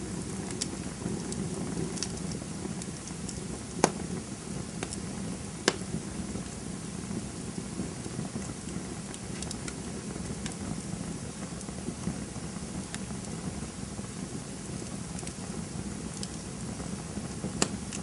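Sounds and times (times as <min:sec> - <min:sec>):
campfire flames rushing: 0:00.0 - 0:18.0
fire crackles and pops: 0:00.0 - 0:18.0.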